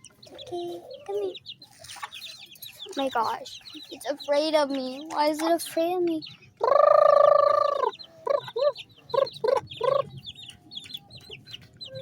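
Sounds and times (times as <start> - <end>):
baby chicks peeping: 0.0 - 12.0
chickens clucking: 0.0 - 12.0.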